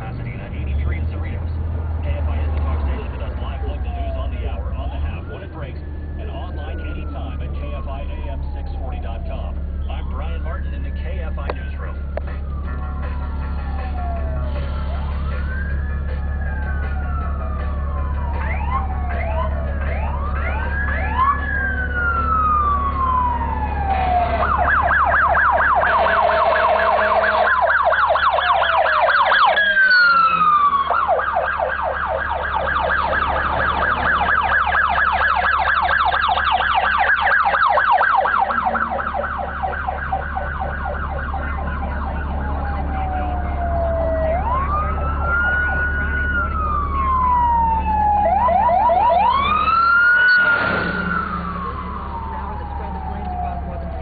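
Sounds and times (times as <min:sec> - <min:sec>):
emergency vehicle sirens wailing: 0:00.0 - 0:54.0
siren rapid yelp: 0:02.9 - 0:54.0.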